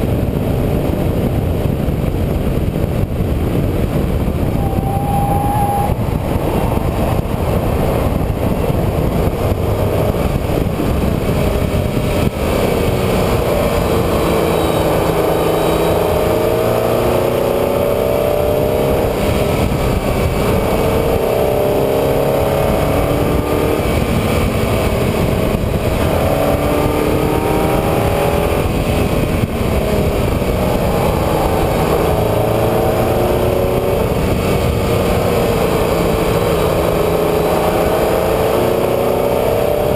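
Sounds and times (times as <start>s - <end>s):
steady road rushing noise: 0.0s - 39.9s
vehicle engine accelerating: 0.0s - 39.9s.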